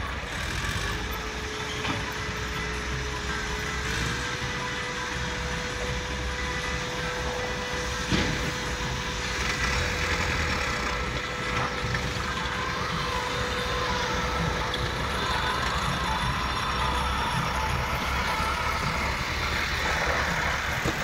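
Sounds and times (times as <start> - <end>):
excavator diesel engines running: 0.0 - 21.0
high whine: 0.0 - 21.0.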